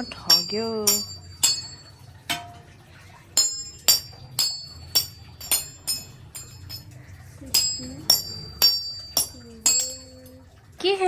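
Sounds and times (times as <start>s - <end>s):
glass cups clinking: 0.0s - 10.4s.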